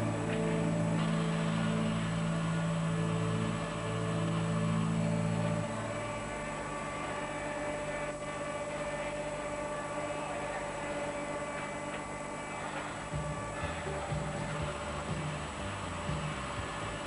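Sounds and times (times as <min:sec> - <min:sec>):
heavy low drone: 0:00.0 - 0:17.0
machinery humming: 0:00.0 - 0:17.0.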